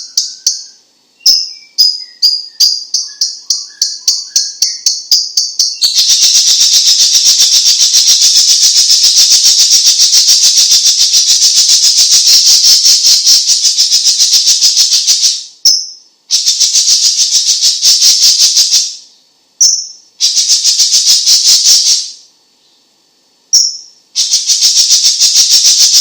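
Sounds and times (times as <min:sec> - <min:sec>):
bird singing rattling trill: 0:00.0 - 0:22.9, 0:23.5 - 0:26.0.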